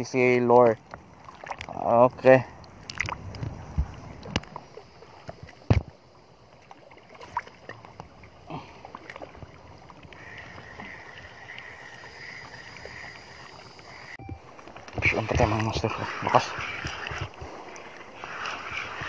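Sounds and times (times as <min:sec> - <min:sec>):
water lapping and sloshing: 0:00.0 - 0:19.0.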